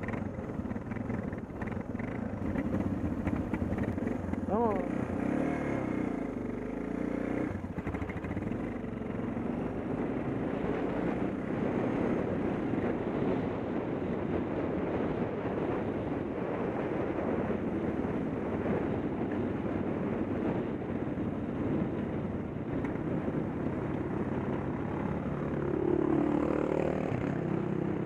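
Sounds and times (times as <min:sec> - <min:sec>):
motorcycle engine running: 0:00.0 - 0:28.0
wind rushing over microphone: 0:00.0 - 0:28.0.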